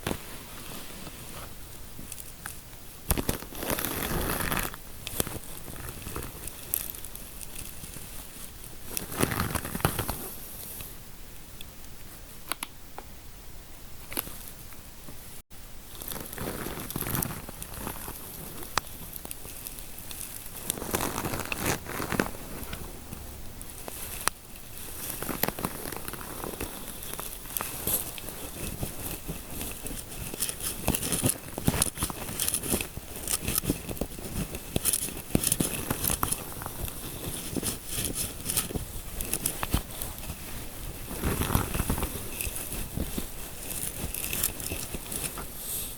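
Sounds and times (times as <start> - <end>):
close scratching and rubbing: 3.1 - 10.8, 16.0 - 45.9.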